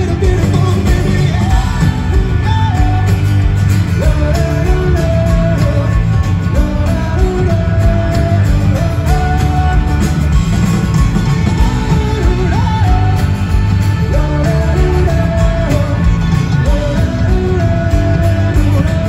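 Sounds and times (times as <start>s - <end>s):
live rock band: 0.0s - 19.0s.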